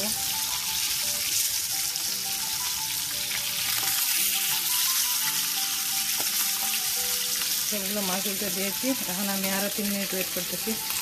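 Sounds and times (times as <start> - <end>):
fish sizzling in hot oil: 0.0 - 11.0
soft background music: 0.0 - 11.0.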